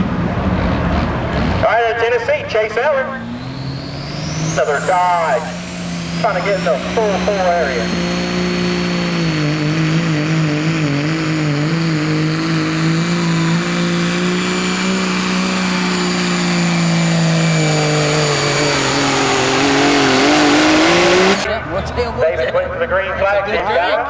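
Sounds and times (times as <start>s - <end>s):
diesel engine running under load: 0.0s - 22.8s.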